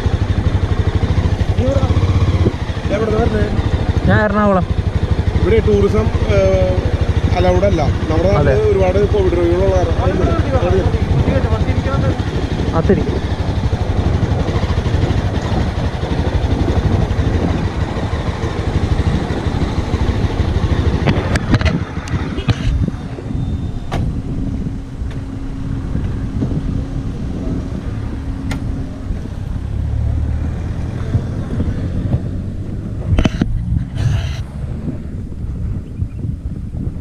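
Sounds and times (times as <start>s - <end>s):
heavy rushing noise: 0.0s - 37.0s
motorcycle engine hum: 0.0s - 37.0s.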